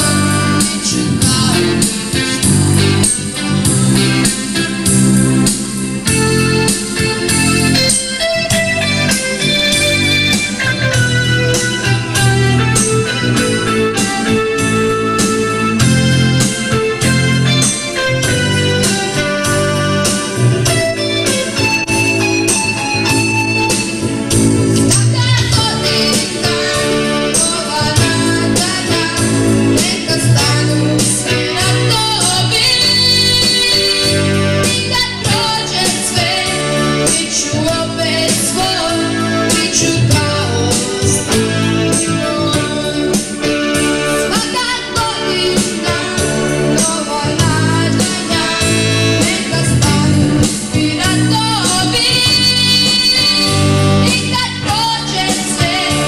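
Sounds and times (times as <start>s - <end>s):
boy singing pop song: 0.0s - 56.0s
electronic keyboard: 0.0s - 56.0s
repeating bass line: 0.0s - 56.0s.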